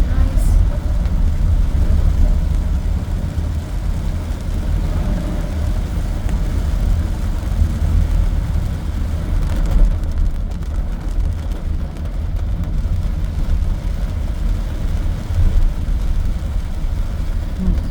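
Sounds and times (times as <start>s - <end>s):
car engine: 0.0s - 17.9s
road rumble: 0.0s - 17.9s.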